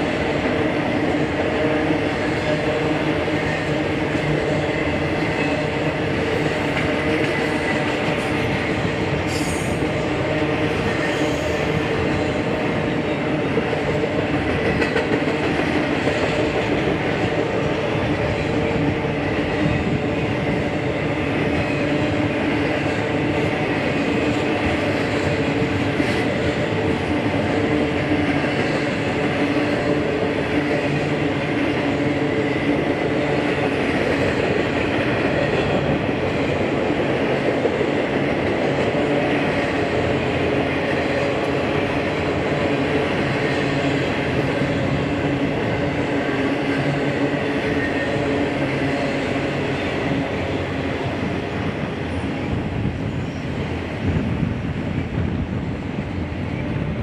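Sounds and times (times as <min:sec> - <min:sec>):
freight train rail noise: 0:00.0 - 0:57.0.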